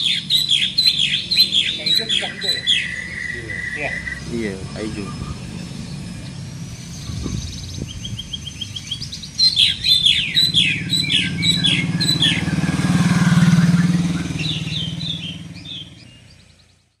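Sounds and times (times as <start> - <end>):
parrots chirping: 0.0 - 16.9
motorcycle engine passing: 0.0 - 17.0.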